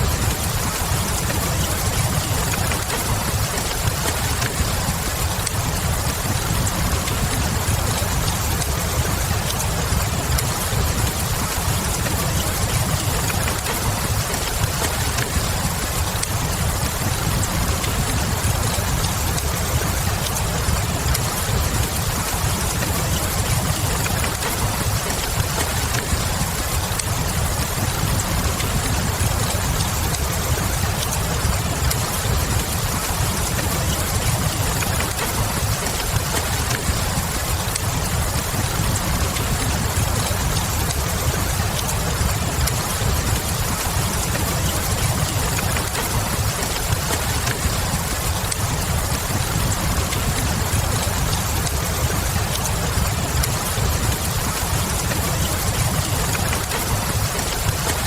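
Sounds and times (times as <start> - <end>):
log fire crackling: 0.0 - 58.0
steady rain: 0.0 - 58.0.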